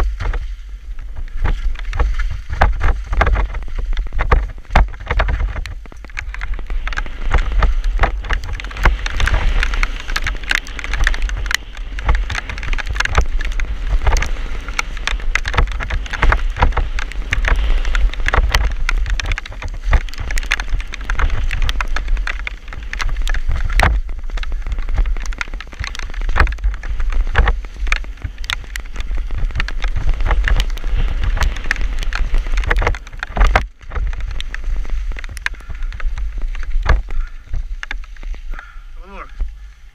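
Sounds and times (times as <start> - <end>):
bike clicks and rattles: 0.0 - 39.9
wind rumble on microphone: 0.0 - 39.9.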